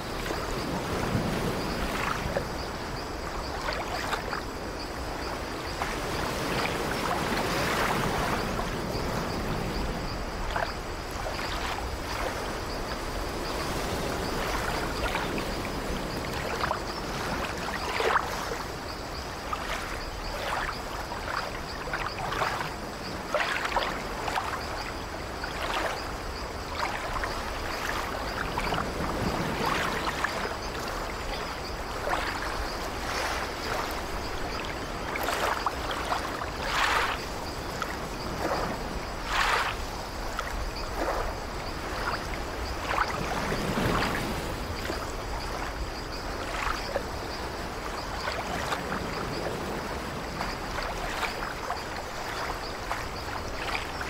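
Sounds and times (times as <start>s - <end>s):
ocean waves washing: 0.0s - 54.0s.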